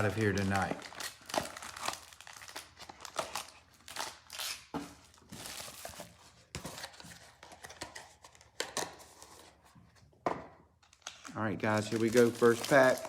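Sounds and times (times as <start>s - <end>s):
plastic wrapping crinkling and tearing: 0.0s - 8.8s, 10.8s - 13.0s.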